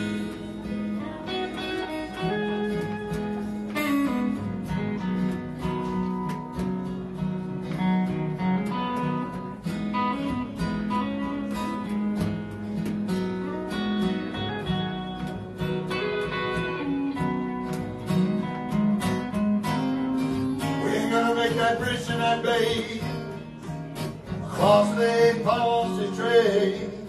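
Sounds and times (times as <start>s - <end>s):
guitars strumming chords: 0.0s - 27.0s.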